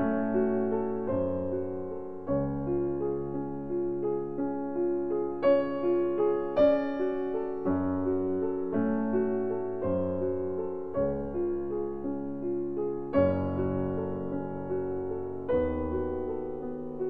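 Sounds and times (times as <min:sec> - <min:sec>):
gentle piano-like keyboard piece: 0:00.0 - 0:17.0.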